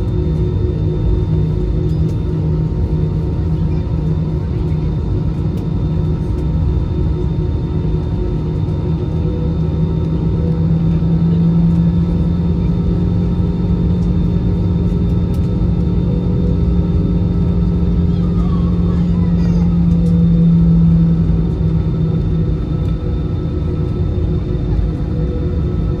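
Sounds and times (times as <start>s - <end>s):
airplane cabin engine drone: 0.0s - 26.0s.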